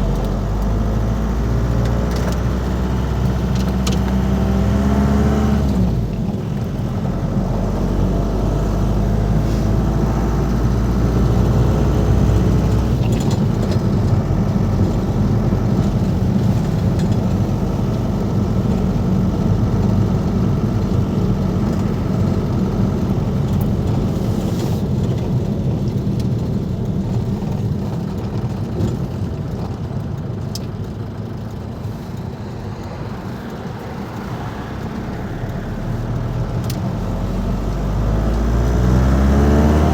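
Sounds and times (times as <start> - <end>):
van diesel engine droning: 0.0 - 39.9.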